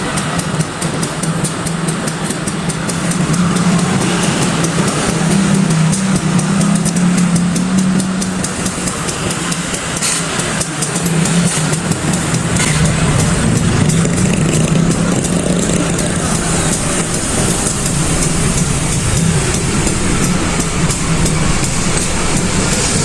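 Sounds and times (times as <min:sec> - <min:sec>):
diesel locomotive engine droning: 0:00.0 - 0:23.0.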